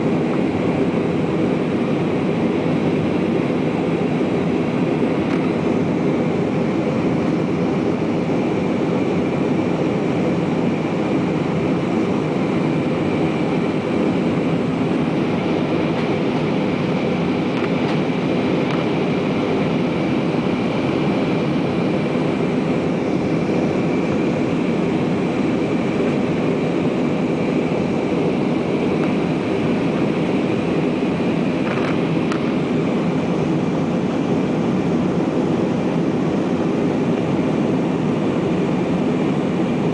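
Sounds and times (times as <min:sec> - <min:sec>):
jet engines and airflow drone: 0:00.0 - 0:39.9.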